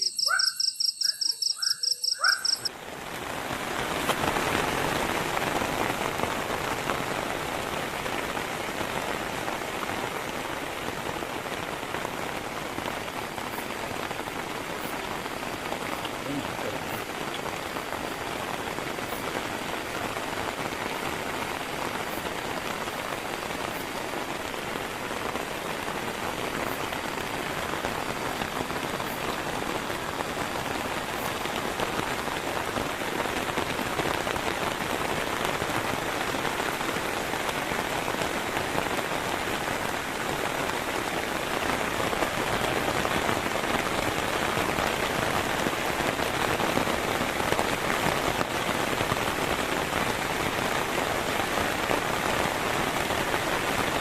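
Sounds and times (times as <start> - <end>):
heavy rain falling: 0.0 - 0.4, 1.4 - 54.0.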